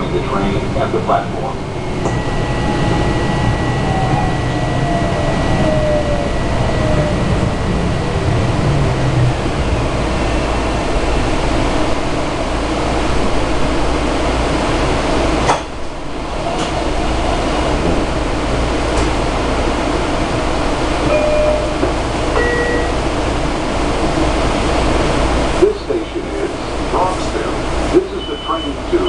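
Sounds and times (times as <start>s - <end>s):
electric train rushing noise: 0.0s - 29.0s
train ventilation running: 0.0s - 29.0s.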